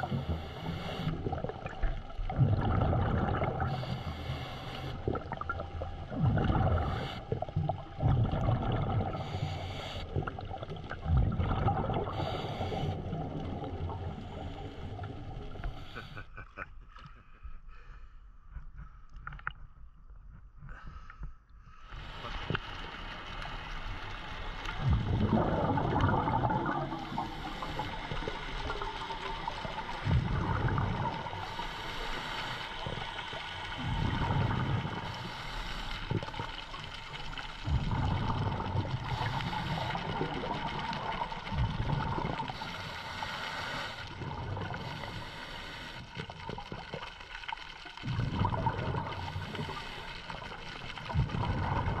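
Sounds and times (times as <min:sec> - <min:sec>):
exhaled bubbles gurgling underwater: 0:00.0 - 0:16.2, 0:22.0 - 0:52.0.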